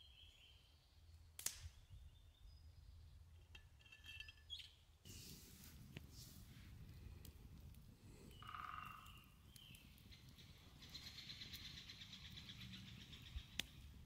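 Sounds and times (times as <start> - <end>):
faint woodland birdsong: 0.0 - 14.0.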